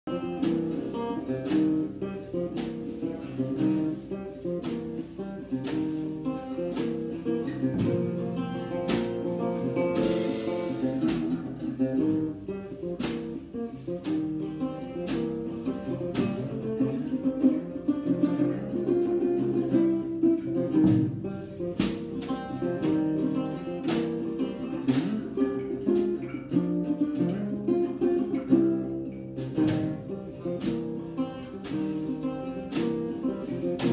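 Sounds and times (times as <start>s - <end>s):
guitar playing: 0.0s - 33.9s
drum kit beat: 0.1s - 33.9s.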